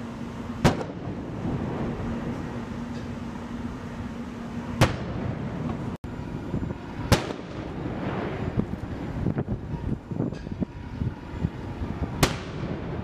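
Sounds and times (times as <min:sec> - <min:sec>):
steady background rumble: 0:00.0 - 0:13.0.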